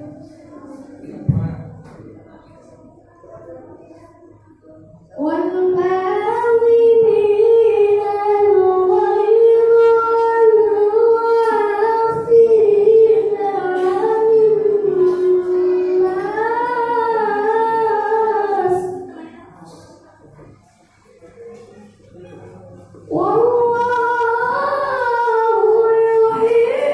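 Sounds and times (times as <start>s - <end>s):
boy chanting recitation: 0.0s - 26.9s.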